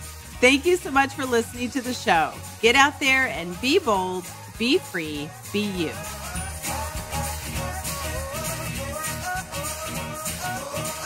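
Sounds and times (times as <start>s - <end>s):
upbeat music with steady beat: 0.0s - 11.0s.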